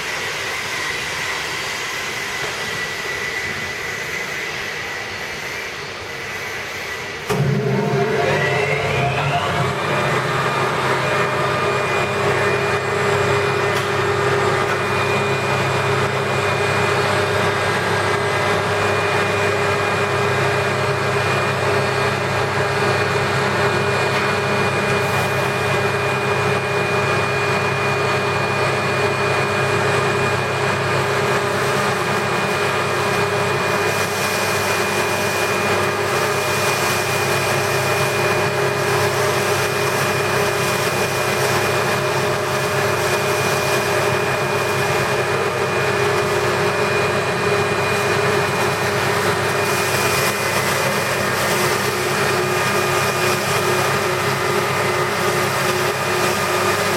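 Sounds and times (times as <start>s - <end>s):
grinding machine droning: 0.0s - 56.9s.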